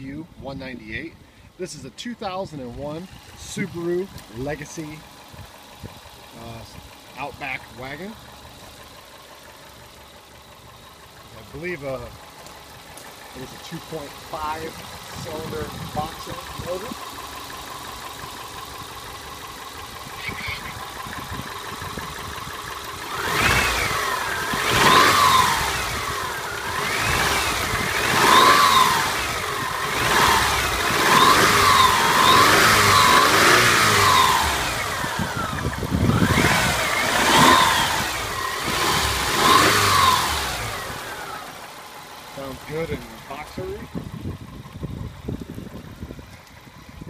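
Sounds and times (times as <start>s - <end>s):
car engine idling and revving: 1.2s - 47.0s.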